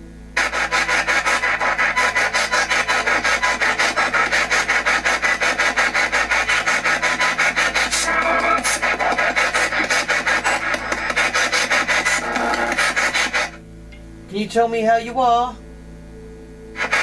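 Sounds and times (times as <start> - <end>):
pulsing radio static: 0.0 - 13.6, 16.8 - 17.0.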